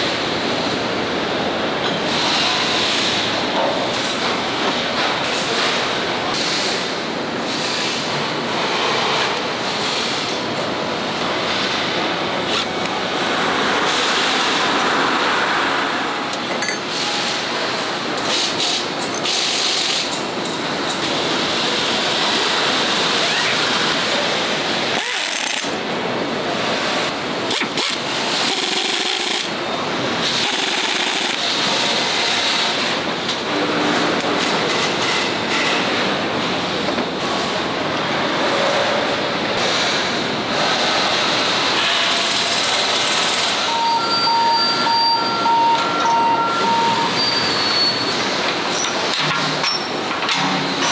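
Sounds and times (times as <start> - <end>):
factory noise: 0.0 - 50.9.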